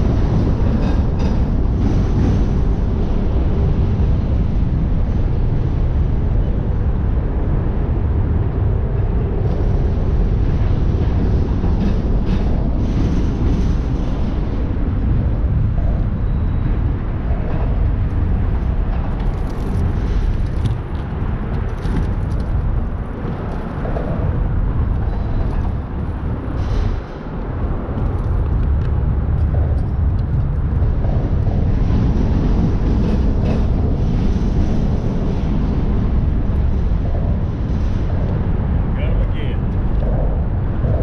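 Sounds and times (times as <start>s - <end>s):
boat low rumble: 0.0s - 41.0s.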